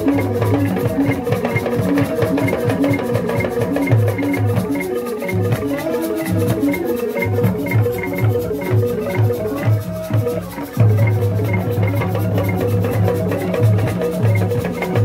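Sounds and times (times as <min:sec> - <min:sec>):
wooden xylophone notes: 0:00.0 - 0:15.0.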